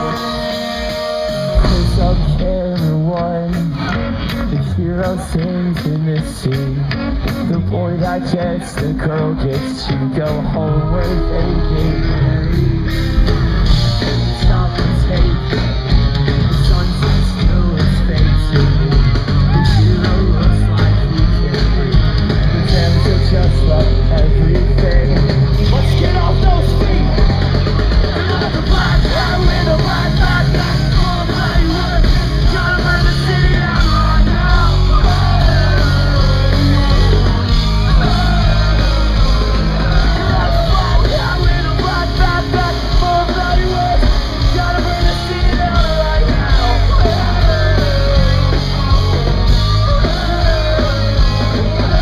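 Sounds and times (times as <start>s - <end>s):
person singing: 0.0s - 52.0s
pop-punk band playing live: 0.0s - 52.0s.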